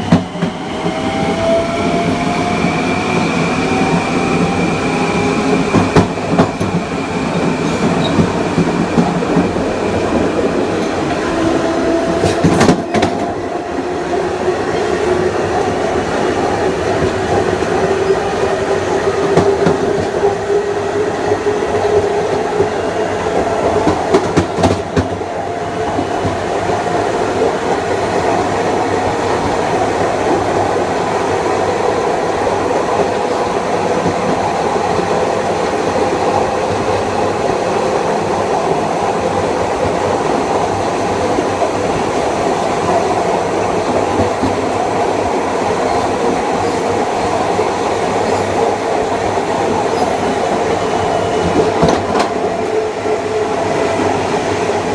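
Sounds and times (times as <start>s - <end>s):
train knocks: 0.0s - 30.8s, 32.7s - 54.2s
train wheels on rail: 0.0s - 54.9s.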